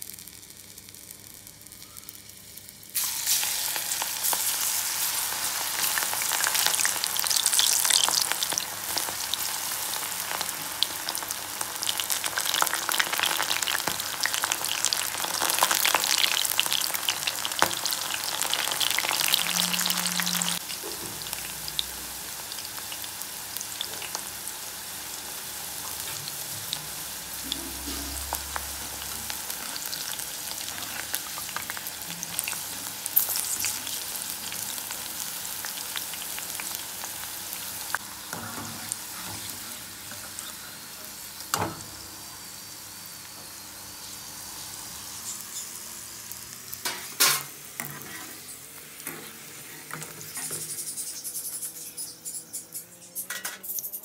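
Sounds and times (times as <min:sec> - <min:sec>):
food deep-frying in oil: 0:00.0 - 0:54.0.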